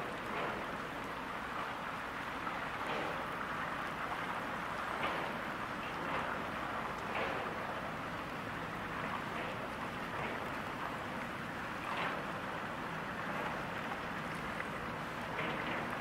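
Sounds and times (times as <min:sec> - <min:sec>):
water and ice rushing along hull: 0:00.0 - 0:16.0.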